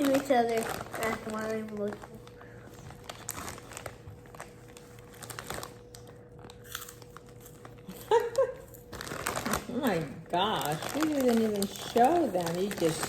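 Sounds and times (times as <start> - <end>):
faint steady hum: 0.0 - 13.0
snack bag crinkling: 0.0 - 13.0.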